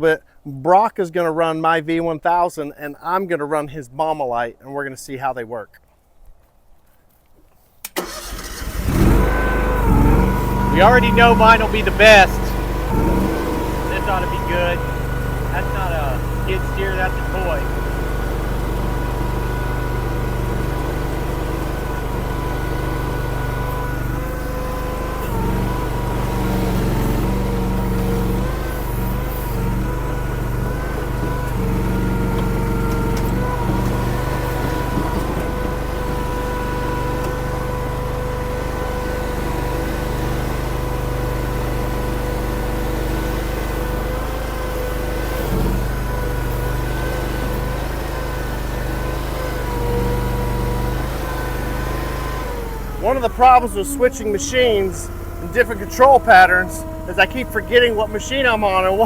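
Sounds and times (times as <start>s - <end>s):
skid steer engine running: 7.9s - 59.0s.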